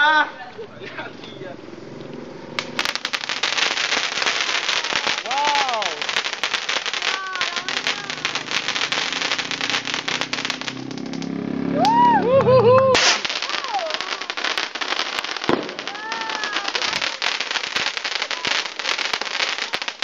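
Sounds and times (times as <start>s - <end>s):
voices calling out: 0.0s - 20.0s
ground fireworks crackling: 0.4s - 20.0s.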